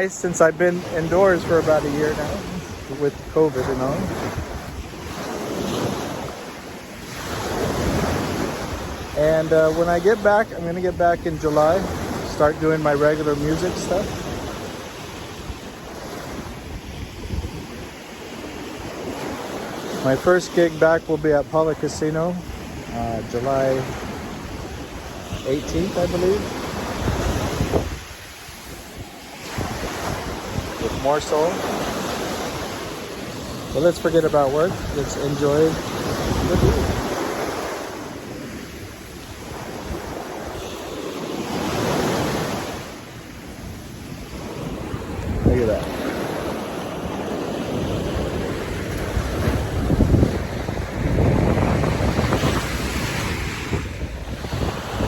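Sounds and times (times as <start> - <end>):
wind buffeting microphone: 0.0 - 20.0, 22.4 - 55.0
sea waves washing onto beach: 0.0 - 55.0.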